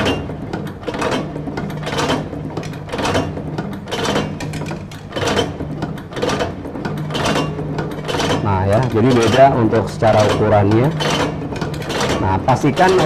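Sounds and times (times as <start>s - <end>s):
tablet press mechanism clacking: 0.0s - 13.0s.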